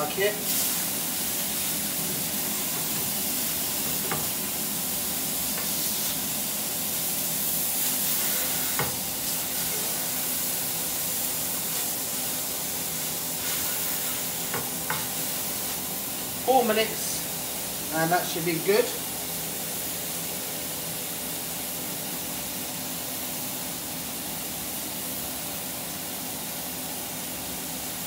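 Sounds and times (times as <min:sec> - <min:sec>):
steaks sizzling in pan: 0:00.0 - 0:28.0.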